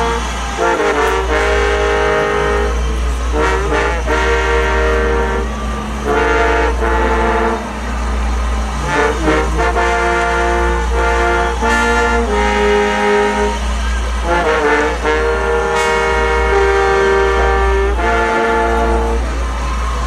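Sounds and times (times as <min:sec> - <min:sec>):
marching band brass chords: 0:00.0 - 0:20.0.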